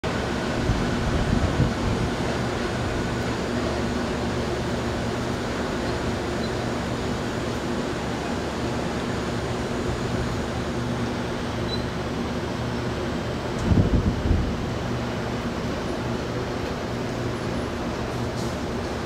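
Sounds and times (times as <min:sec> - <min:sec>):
electric train motors humming: 0:00.0 - 0:19.0.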